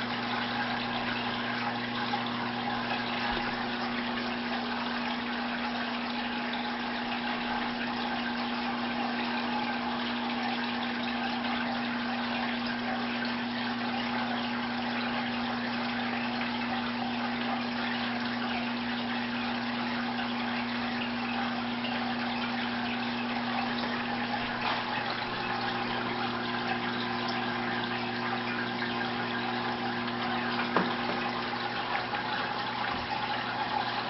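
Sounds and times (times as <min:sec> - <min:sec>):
electrical hum: 0:00.0 - 0:34.0
rushing water from filter pump: 0:00.0 - 0:34.0.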